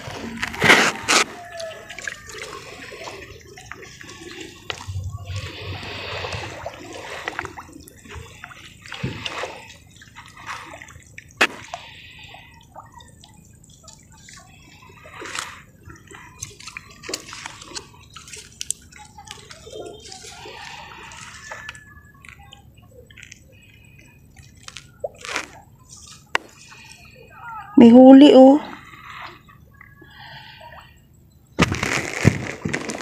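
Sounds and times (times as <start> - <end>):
water sloshing and splashing: 0.0 - 27.7, 28.4 - 33.0.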